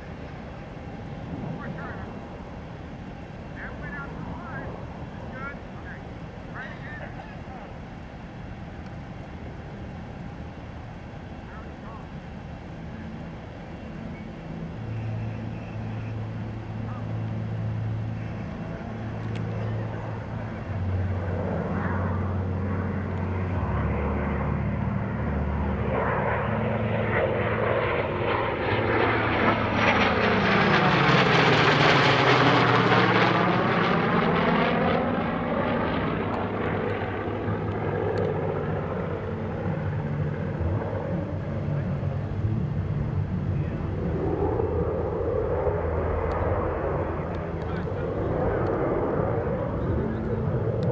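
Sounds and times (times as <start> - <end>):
jet and propeller planes flying past: 0.0 - 50.9.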